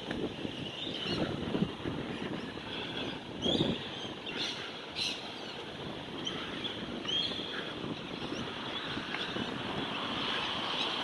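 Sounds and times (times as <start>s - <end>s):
city traffic noise: 0.0s - 11.0s
birds chirping: 0.2s - 11.0s.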